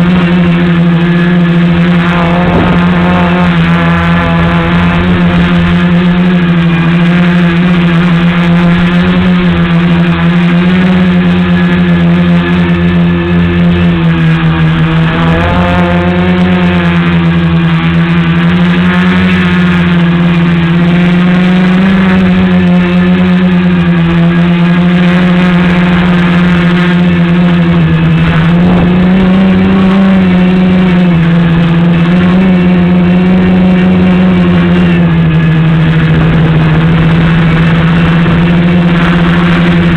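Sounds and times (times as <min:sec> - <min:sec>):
drone motors buzzing in flight: 0:00.0 - 0:39.9.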